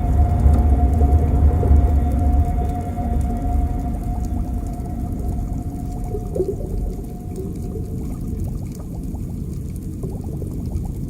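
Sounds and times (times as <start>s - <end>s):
low underwater rumble: 0.0s - 11.0s.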